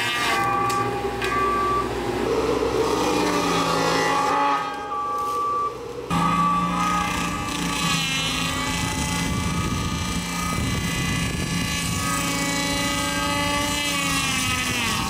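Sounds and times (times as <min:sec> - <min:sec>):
diesel engine running: 0:00.0 - 0:14.1
rotating tree saw cutting: 0:00.0 - 0:15.0.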